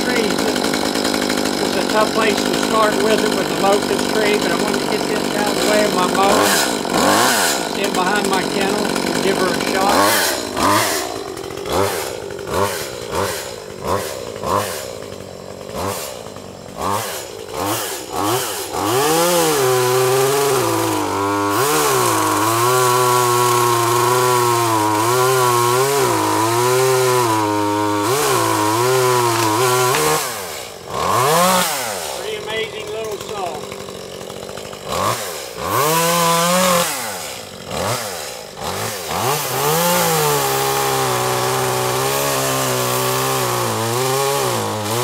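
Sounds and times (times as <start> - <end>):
chainsaw revving and cutting wood: 0.0 - 45.0.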